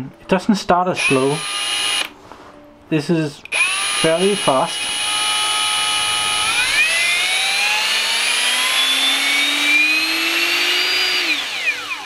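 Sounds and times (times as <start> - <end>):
drill motor whining: 1.0 - 2.1, 3.4 - 12.0.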